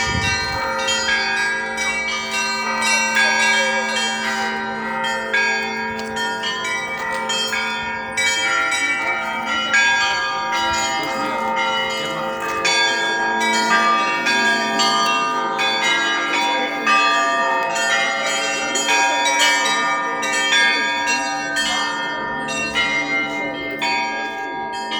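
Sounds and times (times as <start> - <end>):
large bells humming: 0.0 - 24.9
small bells striking quickly: 0.0 - 24.9.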